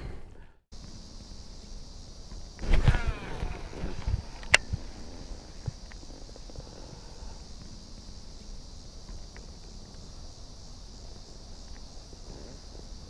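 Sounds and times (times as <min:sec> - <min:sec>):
faint chorus of insects: 0:00.0 - 0:13.0
low rumble of wind: 0:00.0 - 0:13.0
faint ticks: 0:01.6 - 0:13.0.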